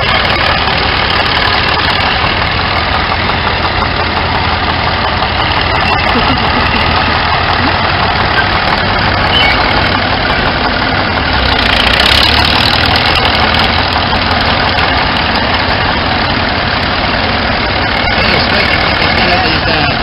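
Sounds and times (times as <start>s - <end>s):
tractor engines idling: 0.0s - 20.0s.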